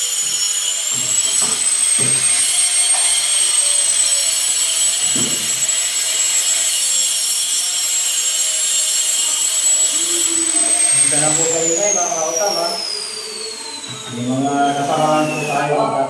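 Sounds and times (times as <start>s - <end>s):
power tool whining: 0.0s - 16.0s.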